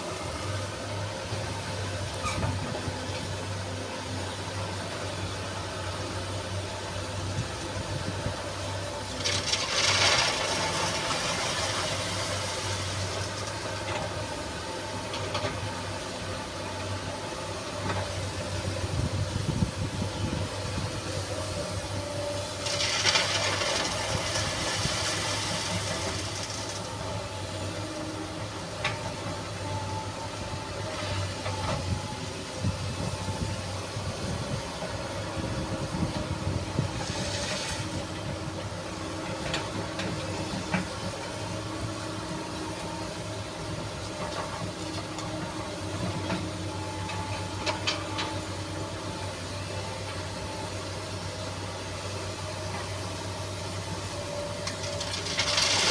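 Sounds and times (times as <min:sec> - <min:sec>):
excavator running: 0:00.0 - 0:55.9.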